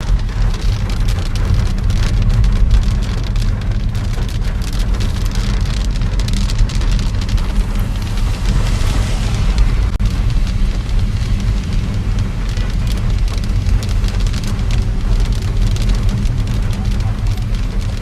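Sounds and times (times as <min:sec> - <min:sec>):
deep rumble: 0:00.0 - 0:18.0
heavy rain falling: 0:00.0 - 0:18.0.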